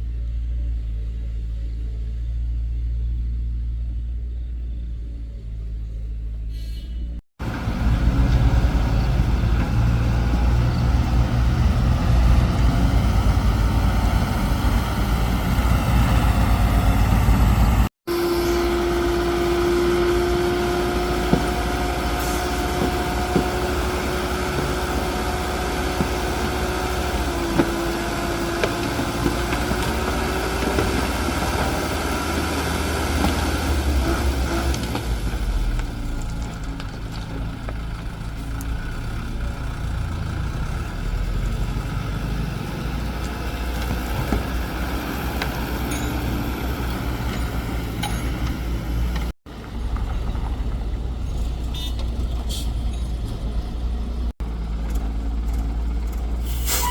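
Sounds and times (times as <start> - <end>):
excavator diesel engine rumbling: 0.0 - 56.9.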